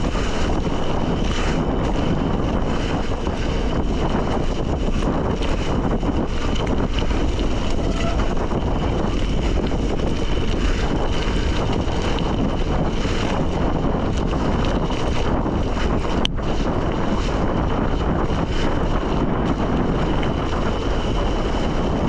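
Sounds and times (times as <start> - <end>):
bike tyres rolling on gravel: 0.0 - 22.0
wind buffeting microphone: 0.0 - 22.0.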